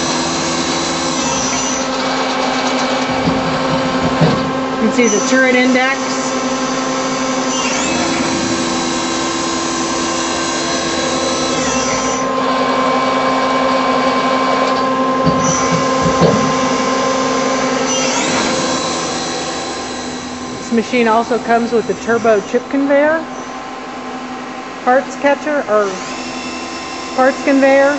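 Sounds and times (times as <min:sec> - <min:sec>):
lathe motor whine: 0:00.0 - 0:27.9.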